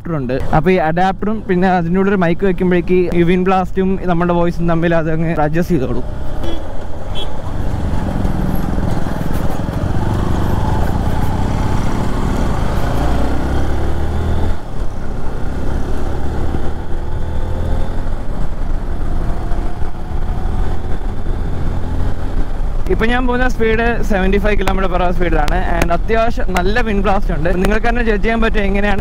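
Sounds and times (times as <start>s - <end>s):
motorcycle engine rumble: 1.1s - 28.8s.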